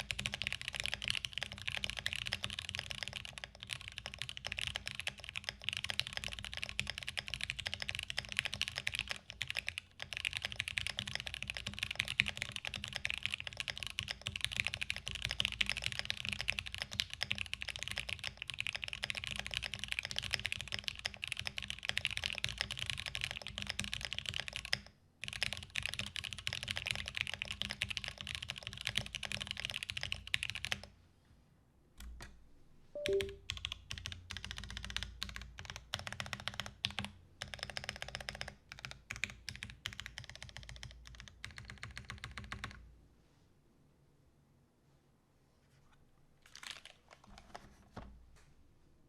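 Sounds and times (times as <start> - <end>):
mechanical keyboard typing: 0.0 - 30.9, 33.0 - 42.8, 46.5 - 47.7.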